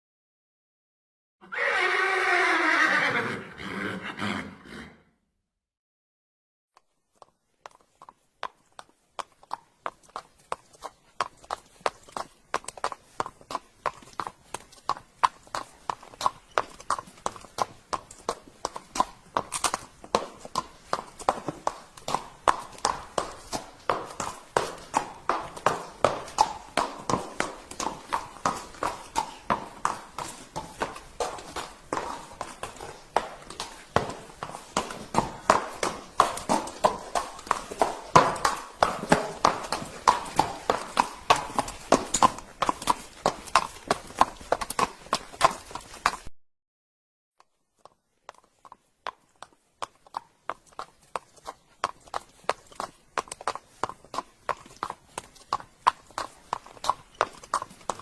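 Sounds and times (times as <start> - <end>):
horse hooves clip-clopping: 6.8 - 46.3, 47.4 - 58.0.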